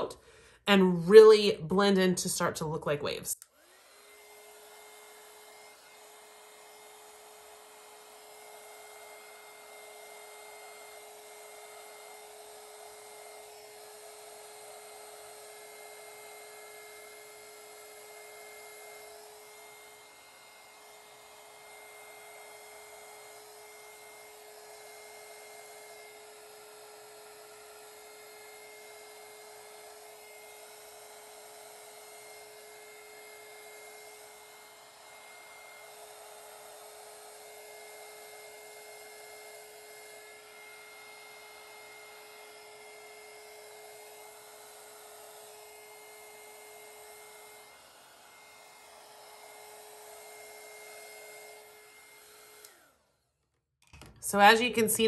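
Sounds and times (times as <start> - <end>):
heat gun fan whirring: 3.4 - 52.9.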